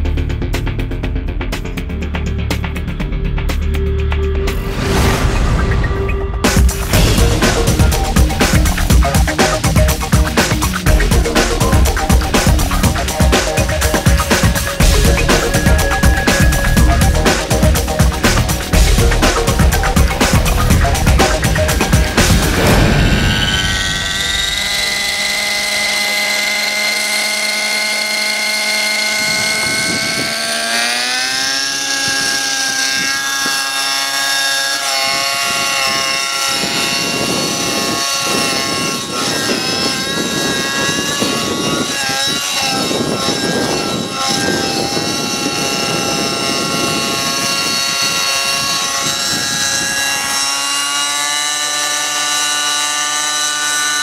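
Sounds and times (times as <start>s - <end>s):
rotor blades whooshing: 3.8s - 54.0s
model helicopter engine whine: 5.9s - 54.0s.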